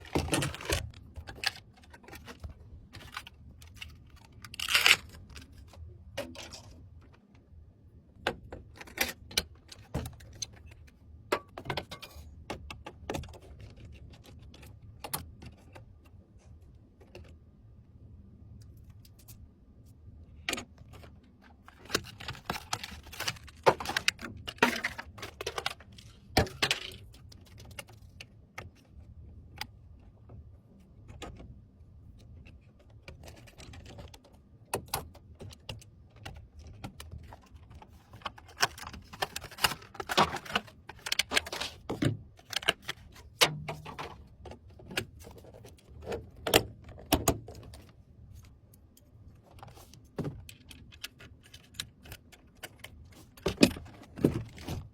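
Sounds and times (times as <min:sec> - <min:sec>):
computer parts clicking and rattling: 0:00.0 - 0:07.2, 0:08.1 - 0:16.2, 0:20.4 - 0:54.9.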